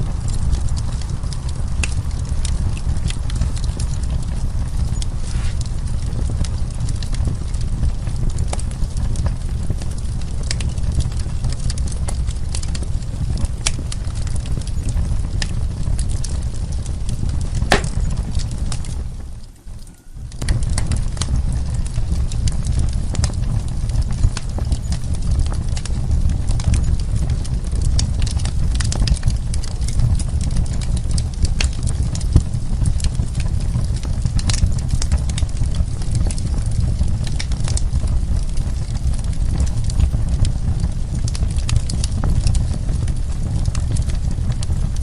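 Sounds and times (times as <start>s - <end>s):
burning wood crackling and popping: 0.0s - 45.0s
low rumble of flames: 0.0s - 45.0s.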